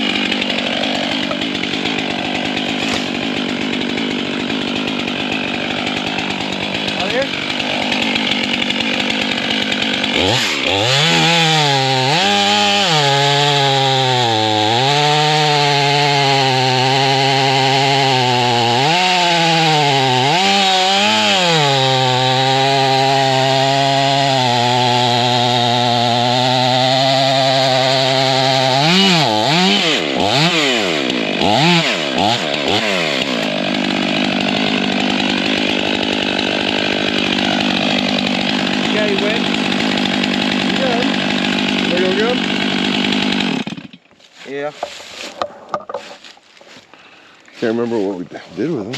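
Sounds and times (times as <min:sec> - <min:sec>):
chainsaw cutting log: 0:00.0 - 0:48.9.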